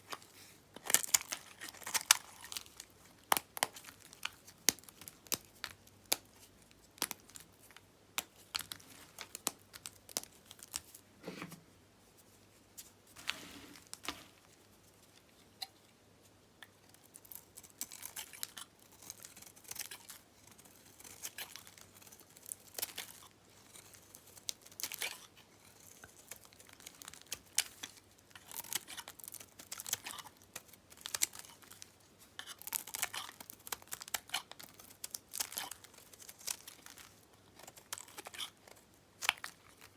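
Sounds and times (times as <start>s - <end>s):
knife crumbling bar soap: 0.0s - 11.0s, 17.0s - 39.9s.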